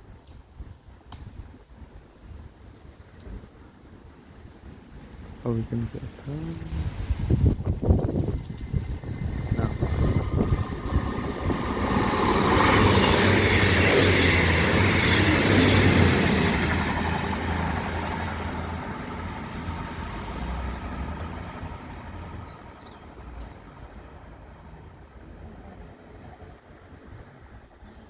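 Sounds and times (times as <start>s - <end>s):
train passing: 3.6s - 28.0s.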